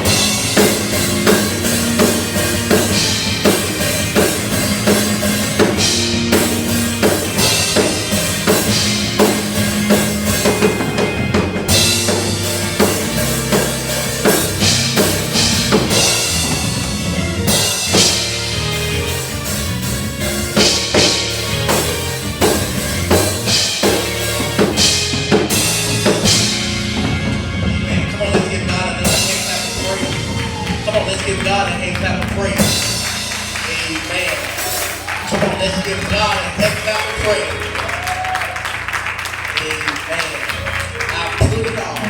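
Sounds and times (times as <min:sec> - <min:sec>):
bass line: 0:00.0 - 0:42.0
drum kit beat: 0:00.0 - 0:42.0.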